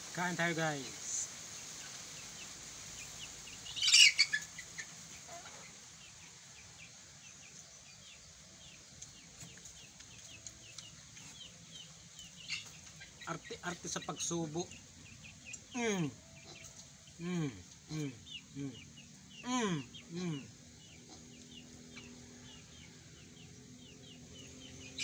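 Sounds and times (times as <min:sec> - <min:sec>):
steady high hiss: 0:00.0 - 0:20.8
birds chirping: 0:00.0 - 0:25.0.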